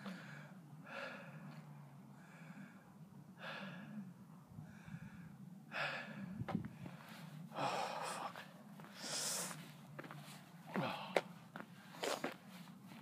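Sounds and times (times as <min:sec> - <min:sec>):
man breathing hard: 0:00.0 - 0:09.6, 0:10.7 - 0:12.3.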